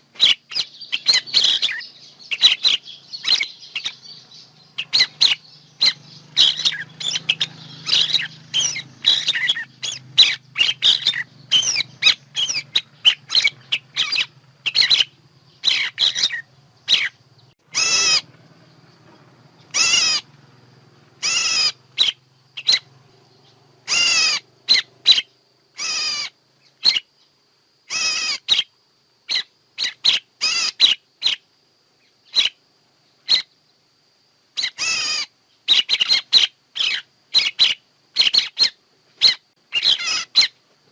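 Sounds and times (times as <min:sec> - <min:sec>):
harsh bird calls: 0:00.0 - 0:33.7, 0:34.6 - 0:40.9
birds chirping: 0:00.0 - 0:33.9, 0:34.6 - 0:40.9.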